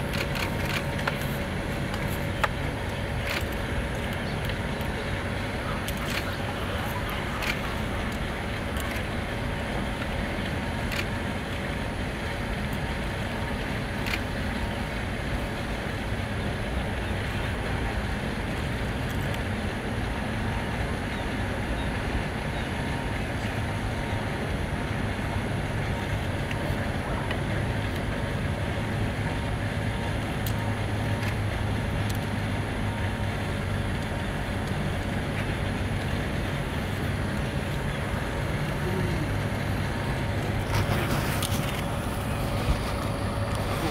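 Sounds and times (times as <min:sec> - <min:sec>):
low outdoor rumble: 0:00.0 - 0:43.9.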